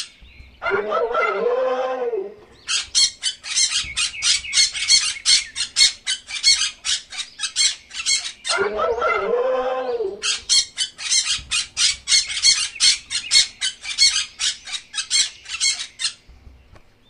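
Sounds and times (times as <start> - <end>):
cockatoo squawking: 0.0 - 16.6.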